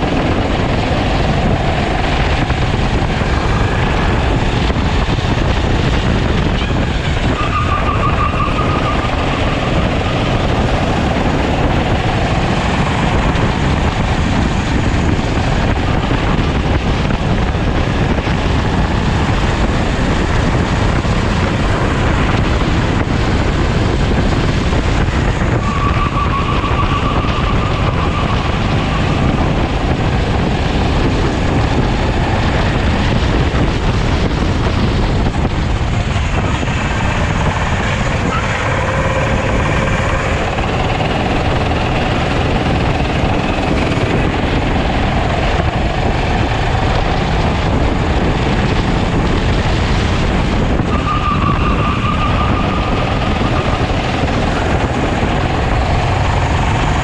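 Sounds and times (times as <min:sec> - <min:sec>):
kart engine running hard: 0:00.0 - 0:57.0
wind rush on microphone: 0:00.0 - 0:57.0.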